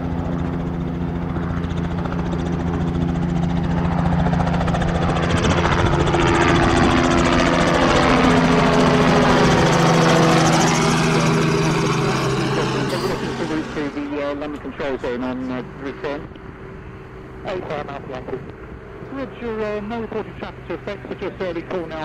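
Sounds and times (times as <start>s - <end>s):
helicopter rotors and engine: 0.0s - 22.0s.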